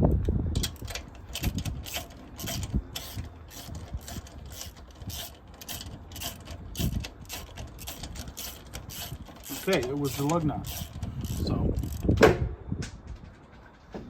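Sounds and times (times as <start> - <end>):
ratchet wrench clicking: 0.6 - 12.1.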